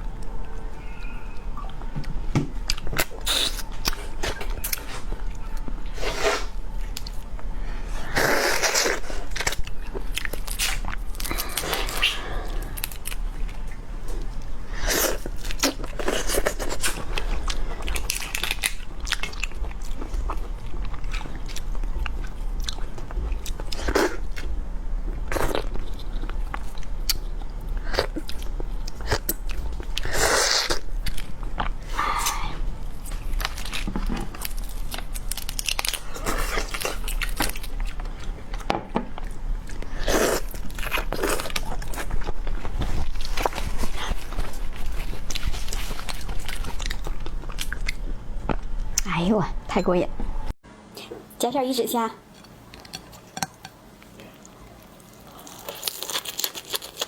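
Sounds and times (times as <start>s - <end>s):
steady low hum: 0.0s - 57.0s
crunching and chewing seafood: 1.6s - 49.1s, 52.3s - 57.0s.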